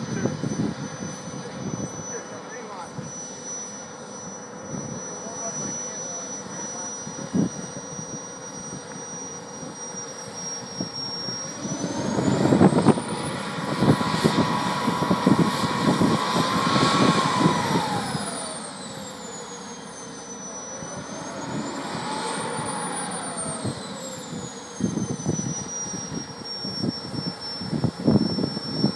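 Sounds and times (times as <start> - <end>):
jet turbine engine whine: 0.0 - 28.9
rush of exhaust: 4.7 - 28.9.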